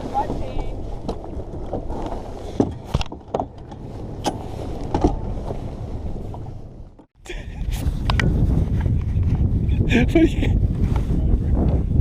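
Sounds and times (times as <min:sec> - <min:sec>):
boat engine rumble: 0:00.0 - 0:10.5.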